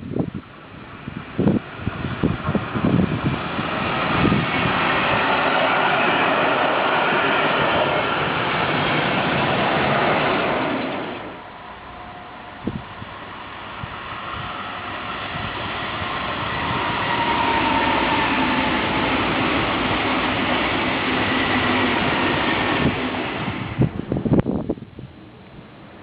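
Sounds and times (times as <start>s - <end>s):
train passing rumble: 0.0s - 26.0s.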